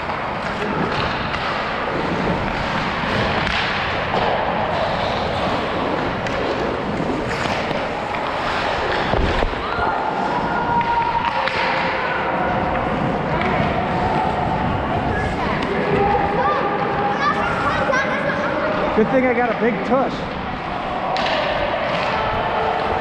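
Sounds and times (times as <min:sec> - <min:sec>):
hockey sticks clattering: 0:00.0 - 0:14.5, 0:18.3 - 0:23.0
skates scraping on ice: 0:00.0 - 0:19.0.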